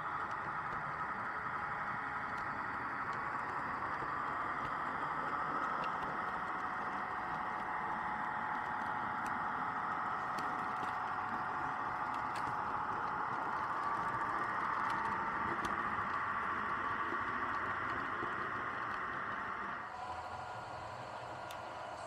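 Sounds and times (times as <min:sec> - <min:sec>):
model train motor whirring: 0:00.2 - 0:22.0.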